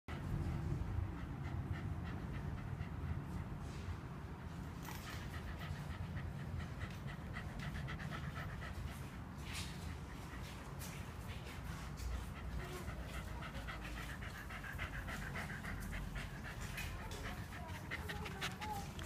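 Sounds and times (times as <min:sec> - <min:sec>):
dog panting: 0:00.1 - 0:19.0.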